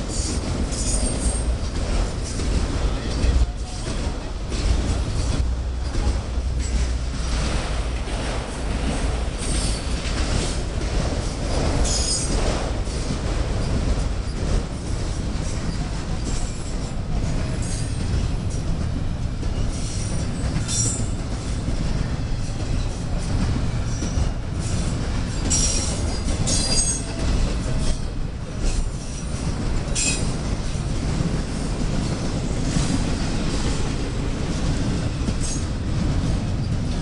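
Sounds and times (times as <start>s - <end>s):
railroad cars rumbling past: 0.0s - 37.0s.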